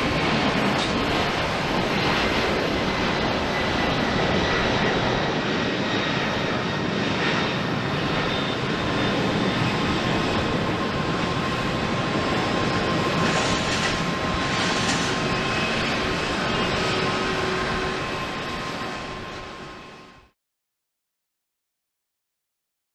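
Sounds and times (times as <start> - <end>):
jet engines roaring: 0.0 - 20.3.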